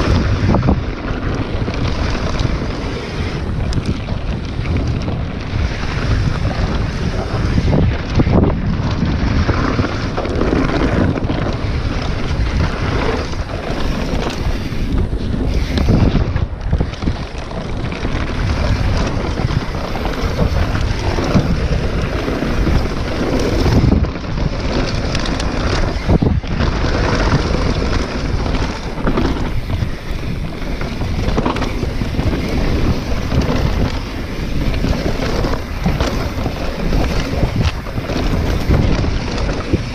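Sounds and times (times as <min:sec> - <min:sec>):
bike rattling over bumps: 0:00.0 - 0:39.9
tyres rumbling on dirt: 0:00.0 - 0:39.9
wind buffeting microphone: 0:00.0 - 0:39.9.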